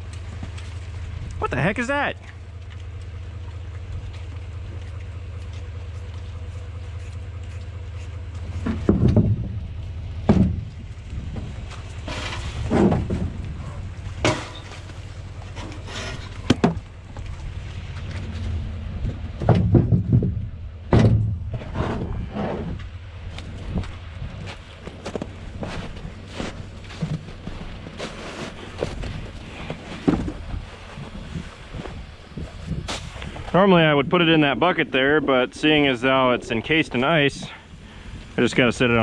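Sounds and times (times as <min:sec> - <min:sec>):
truck engine idling: 0:00.0 - 0:34.8.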